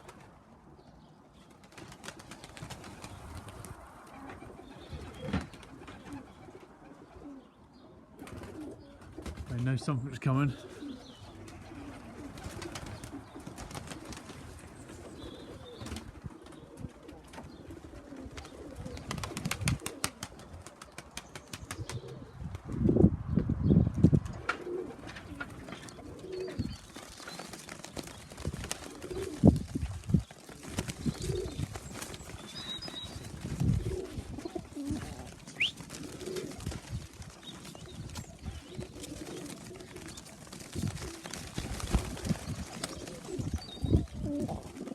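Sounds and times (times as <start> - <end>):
pigeons cooing: 1.3 - 22.5, 24.3 - 44.9
wings flapping: 1.5 - 6.7, 8.2 - 9.6, 10.7 - 22.2, 24.4 - 44.9.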